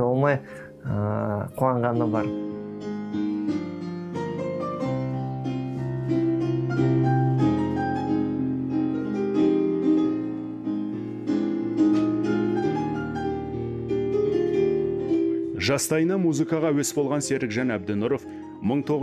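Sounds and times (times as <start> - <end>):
piano piece: 0.0 - 19.0.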